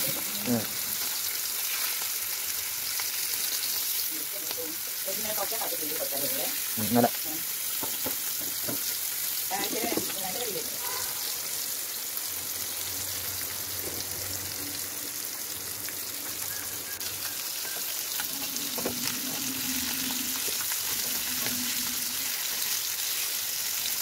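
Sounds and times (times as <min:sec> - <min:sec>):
fish sizzling in a pan: 0:00.0 - 0:24.0.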